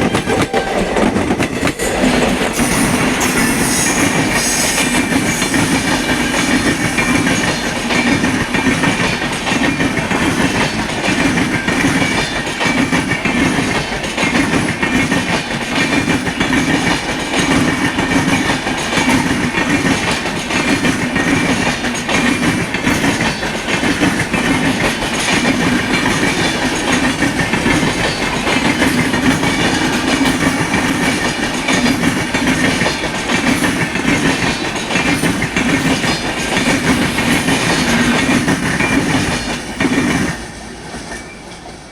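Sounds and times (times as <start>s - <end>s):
train wheels clattering over rails: 0.0s - 41.9s.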